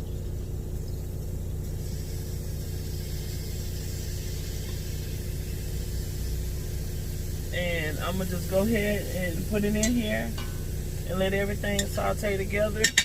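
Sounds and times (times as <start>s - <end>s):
low mechanical hum: 0.0s - 13.0s
faint hiss: 1.6s - 13.0s.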